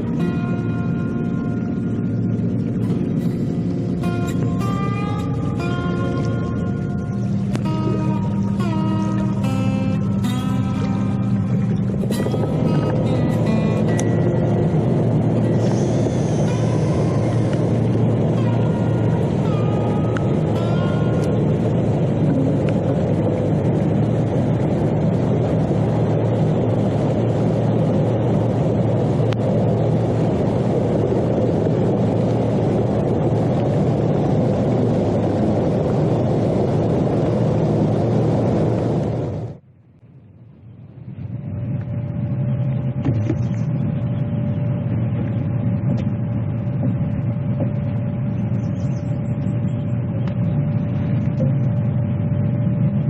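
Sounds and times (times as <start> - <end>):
faint steady hum: 0.0 - 53.0
motor vehicle running: 0.0 - 53.0.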